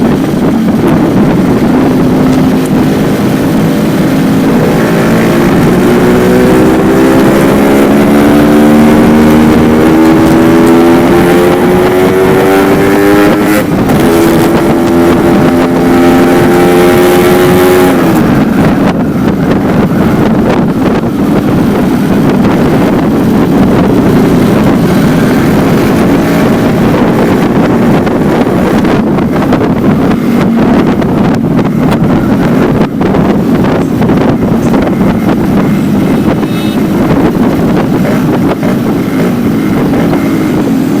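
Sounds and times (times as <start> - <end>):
motorcycle accelerating: 0.0 - 41.0
wind noise on microphone: 0.0 - 41.0.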